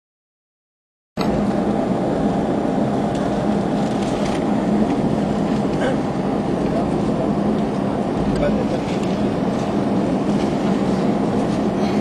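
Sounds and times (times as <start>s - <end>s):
constant low hum: 1.2s - 12.0s
jet engine cabin drone: 1.2s - 12.0s.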